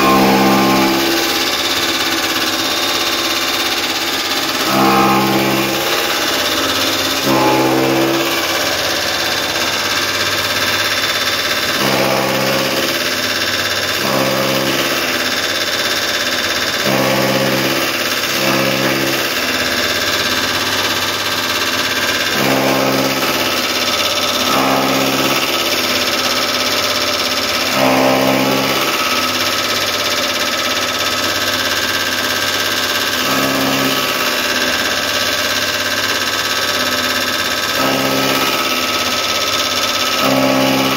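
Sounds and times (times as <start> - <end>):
chaff cutter chopping straw: 0.0 - 40.9.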